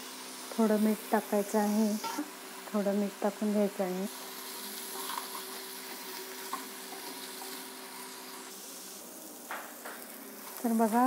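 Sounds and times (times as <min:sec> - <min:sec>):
cheese sizzling in a frying pan: 0:00.0 - 0:11.0.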